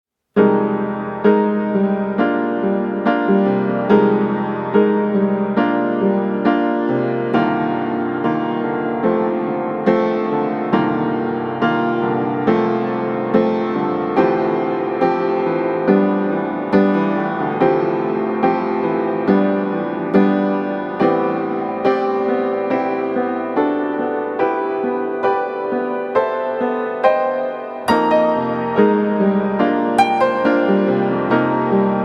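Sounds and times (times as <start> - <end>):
piano music: 0.4 - 32.0.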